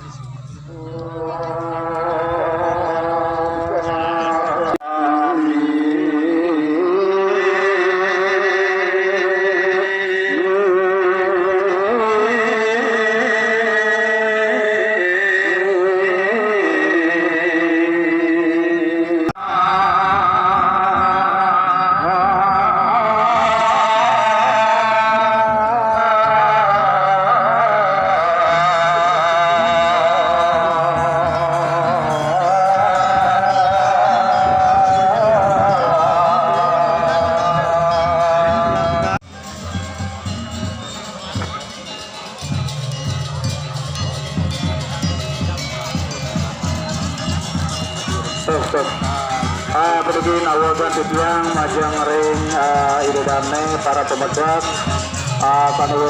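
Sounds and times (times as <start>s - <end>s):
slow melismatic singing: 0.0s - 56.0s.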